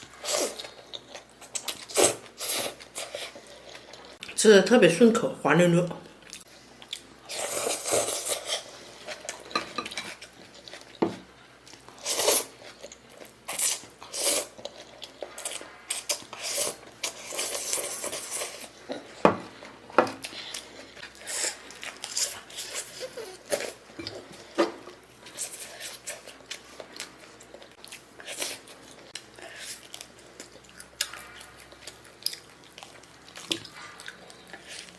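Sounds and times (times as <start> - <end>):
noisy eating sounds: 0.0 - 34.9.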